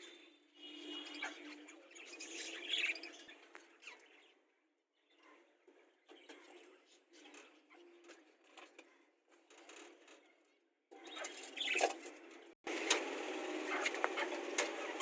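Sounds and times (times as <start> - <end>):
parrots chirping and chattering: 0.0 - 15.0.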